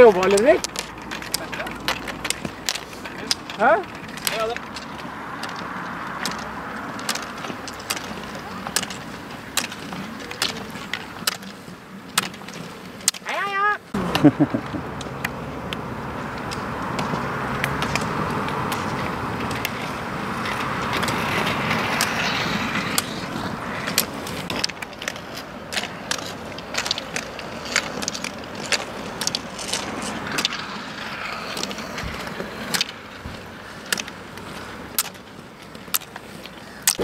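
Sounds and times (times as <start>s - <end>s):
roller ski wheels on asphalt: 0.0s - 37.0s
ski pole tips clicking on asphalt: 0.0s - 37.0s.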